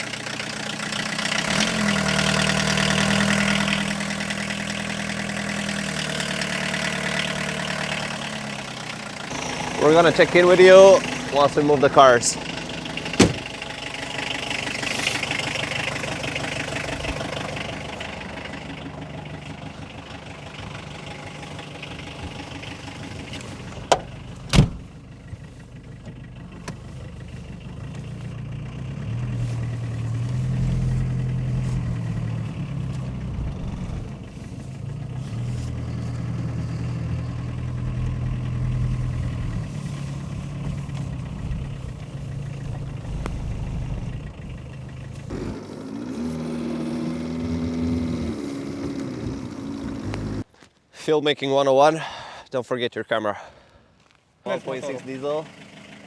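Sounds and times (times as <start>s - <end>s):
car engine idling: 0.0s - 50.5s, 54.1s - 56.0s.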